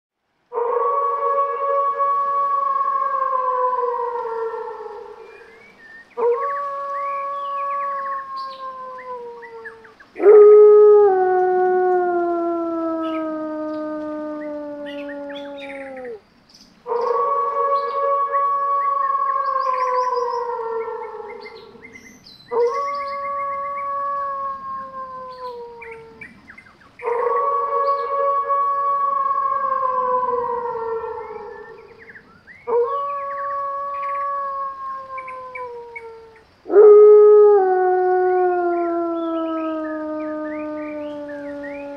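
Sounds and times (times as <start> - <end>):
wolf howling: 0.5 - 16.2, 16.9 - 26.3, 27.0 - 41.9.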